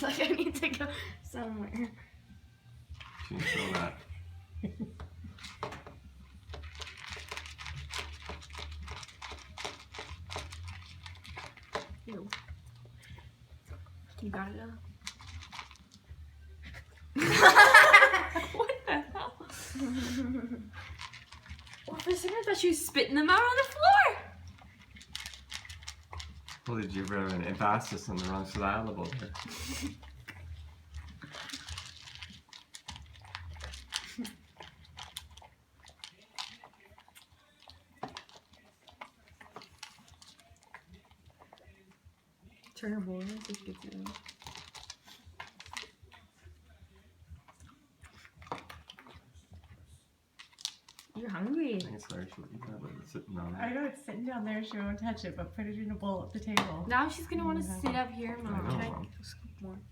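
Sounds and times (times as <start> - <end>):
dog crunching dry food: 2.9 - 4.1, 5.2 - 18.4, 19.9 - 59.3.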